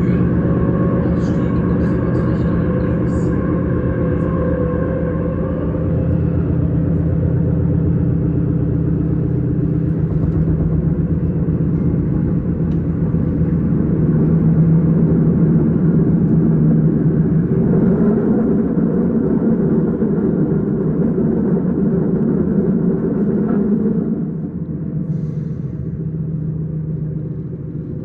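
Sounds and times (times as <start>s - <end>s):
train rumbling along tracks: 0.0s - 28.0s.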